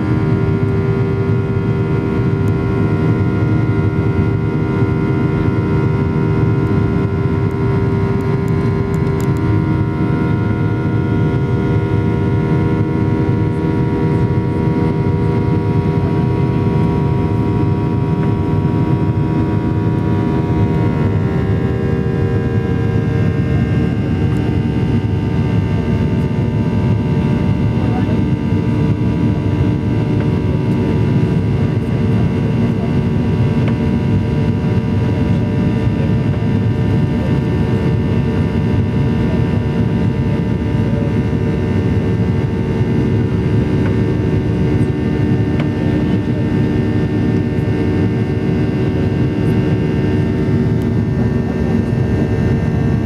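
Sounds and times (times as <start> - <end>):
airplane cabin engine drone: 0.0 - 53.0.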